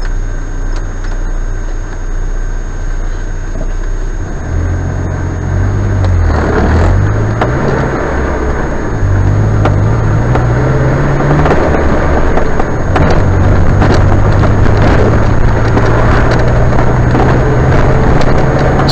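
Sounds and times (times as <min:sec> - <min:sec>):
road noise: 0:00.0 - 0:18.9
vehicle engine running: 0:00.0 - 0:18.9.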